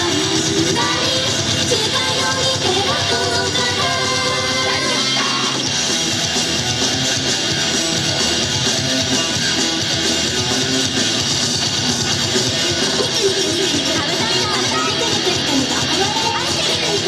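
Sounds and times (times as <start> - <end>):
upbeat pop music: 0.0 - 17.0.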